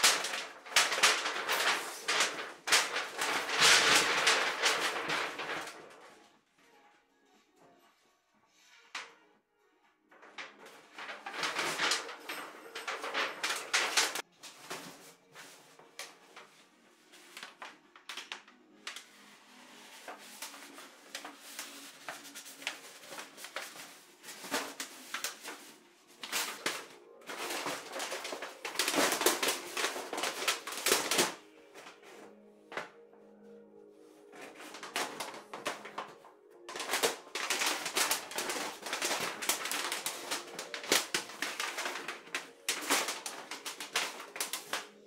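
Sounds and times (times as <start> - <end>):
thin metal sheet crinkling: 0.0 - 6.3, 10.1 - 33.2, 34.0 - 45.0.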